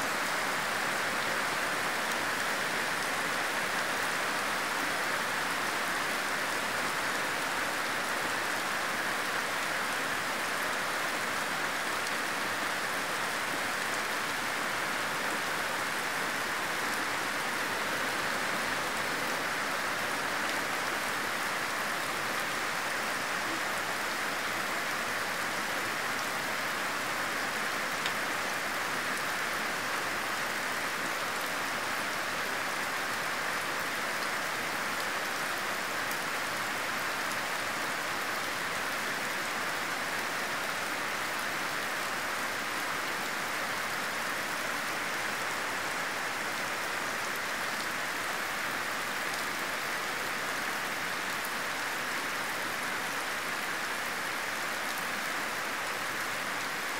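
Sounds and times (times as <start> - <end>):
heavy rain on leaves: 0.0 - 56.9.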